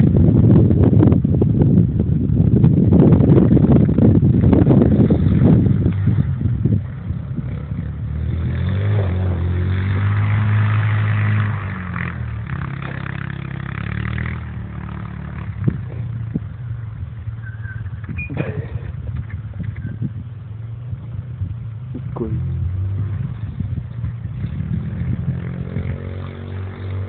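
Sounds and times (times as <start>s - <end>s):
vehicle engine revving: 2.9s - 27.0s.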